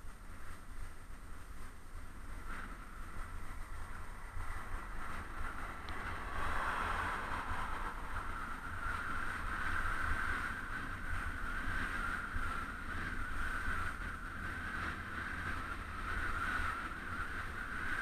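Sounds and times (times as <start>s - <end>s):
bicycle tyres rolling on asphalt: 0.0s - 18.0s
wind buffeting microphone: 0.0s - 18.0s.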